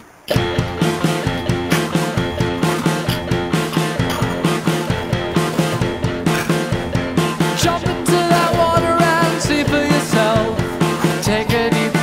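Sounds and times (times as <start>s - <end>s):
guitar-led rock music: 0.3s - 12.0s.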